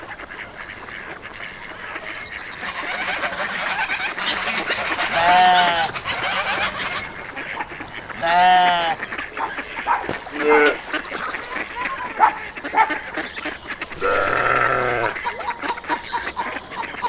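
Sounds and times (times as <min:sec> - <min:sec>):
birds chattering and calling: 0:00.0 - 0:17.0
drawn-out farm animal call: 0:00.0 - 0:17.0.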